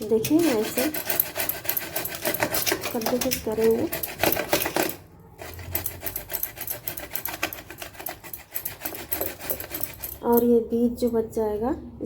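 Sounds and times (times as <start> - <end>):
grating on kitchen grater: 0.0 - 10.5.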